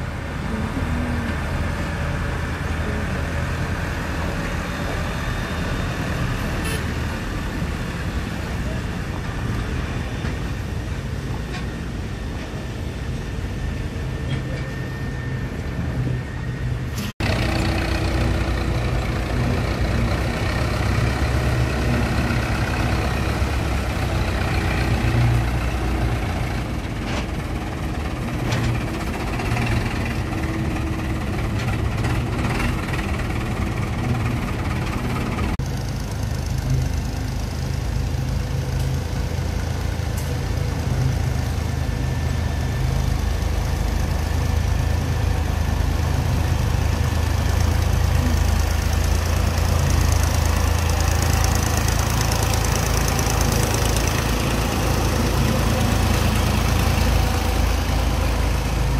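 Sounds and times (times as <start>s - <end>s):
tractor diesel engines running: 0.0s - 58.9s.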